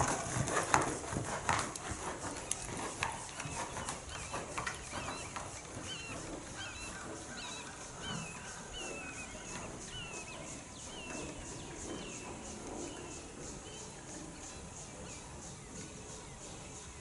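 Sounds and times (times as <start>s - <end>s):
horse hoofbeats on sand: 0.0s - 16.1s
bird chirping: 2.2s - 17.0s.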